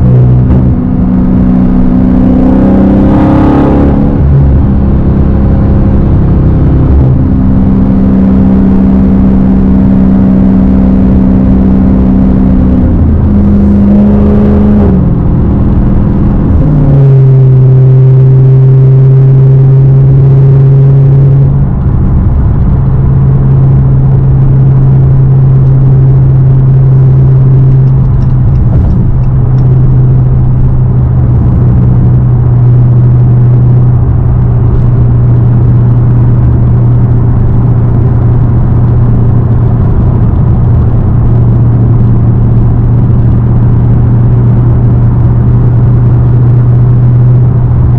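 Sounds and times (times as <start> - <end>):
loud car exhaust while driving: 0.0 - 47.9.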